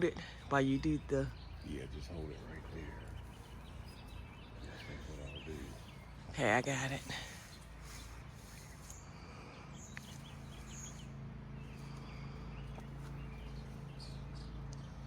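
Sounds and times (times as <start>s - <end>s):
faint bird chirps: 0.0s - 15.0s
steady low hum: 0.0s - 15.0s.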